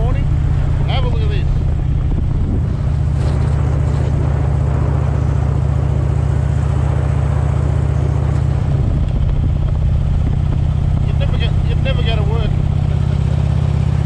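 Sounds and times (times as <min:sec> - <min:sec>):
motorcycle engine running: 0:00.0 - 0:14.0
steady rushing noise: 0:00.0 - 0:14.0.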